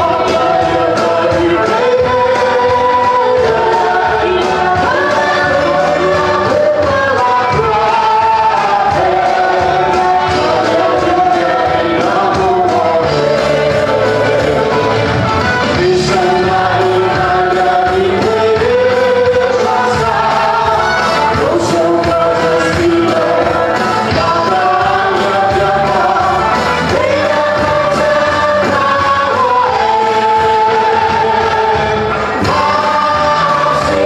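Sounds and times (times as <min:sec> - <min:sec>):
congregation singing worship song: 0:00.0 - 0:34.0
instrumental backing: 0:00.0 - 0:34.0.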